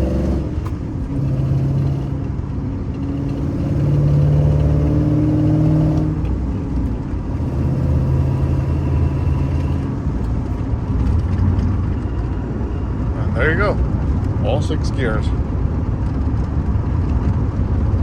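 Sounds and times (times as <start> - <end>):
pickup engine accelerating: 0.0 - 18.0.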